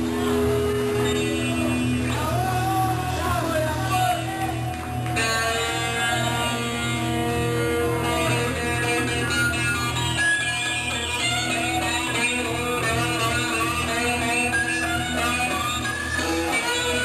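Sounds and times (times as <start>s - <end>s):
person singing: 0.0s - 17.0s
rock band playing: 0.0s - 17.0s
wavering bending melodic line: 0.0s - 17.0s.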